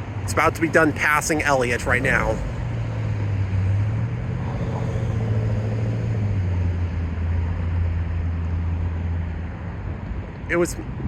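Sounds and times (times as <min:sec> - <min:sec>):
passing vehicle engine hum: 0:00.0 - 0:11.0.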